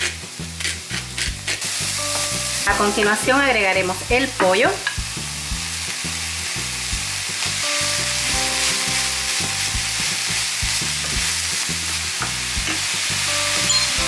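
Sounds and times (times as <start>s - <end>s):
food sizzling in a frying pan: 0.0s - 14.0s
low background music: 0.0s - 14.0s.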